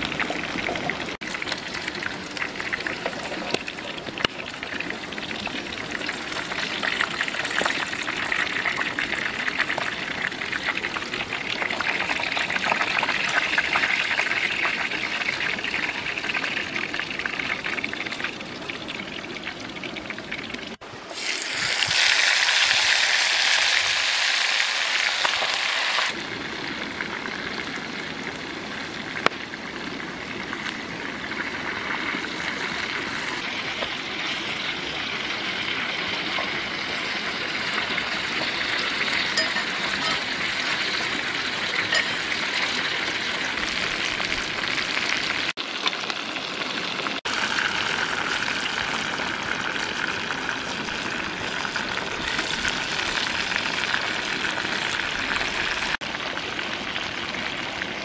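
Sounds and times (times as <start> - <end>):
chicken deep-frying in oil: 0.0 - 58.0.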